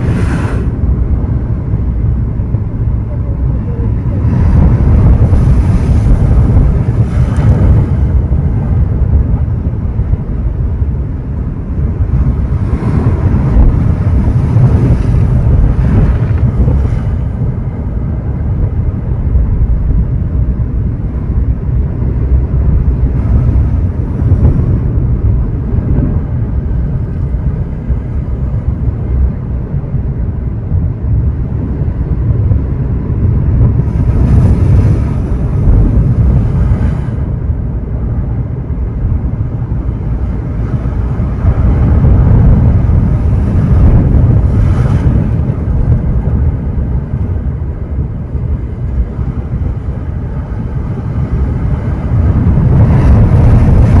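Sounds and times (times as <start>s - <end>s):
sea waves washing onto shore: 0.0s - 21.1s, 31.5s - 54.0s
wind buffeting microphone: 0.0s - 54.0s.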